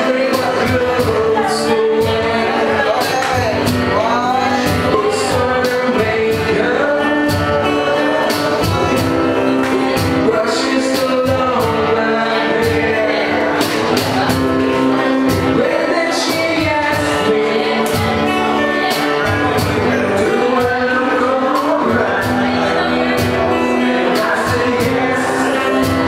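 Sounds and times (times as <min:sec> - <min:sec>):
person singing: 0:00.0 - 0:26.0
steady drumbeat: 0:00.0 - 0:26.0
sustained guitar tones: 0:00.0 - 0:26.0.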